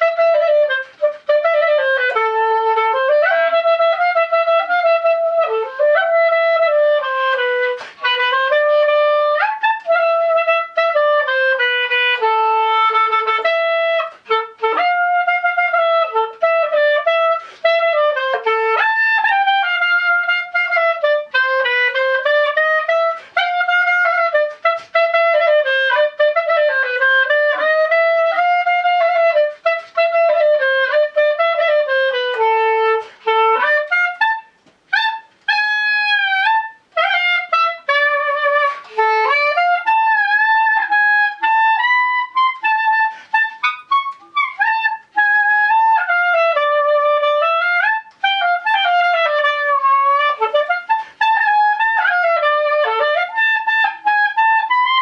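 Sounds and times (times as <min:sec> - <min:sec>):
solo clarinet melody: 0:00.0 - 0:55.0.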